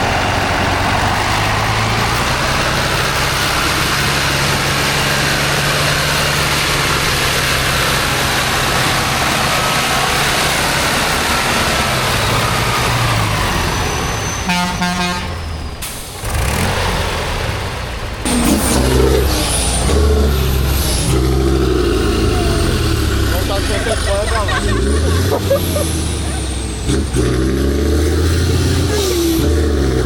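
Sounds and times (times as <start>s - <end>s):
diesel truck engine roaring: 0.0s - 30.0s.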